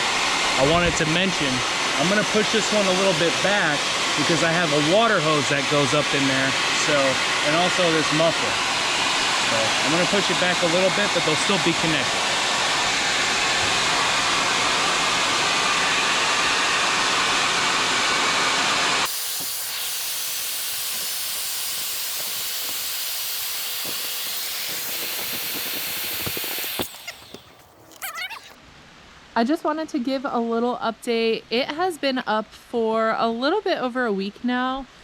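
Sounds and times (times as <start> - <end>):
electric air inflator hissing: 0.0 - 28.6.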